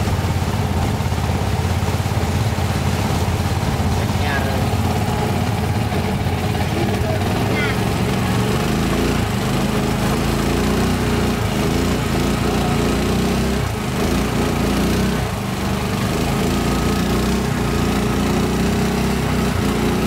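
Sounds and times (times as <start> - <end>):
small boat engine running: 0.0 - 20.0
water hissing: 0.0 - 20.0
wind: 0.0 - 20.0.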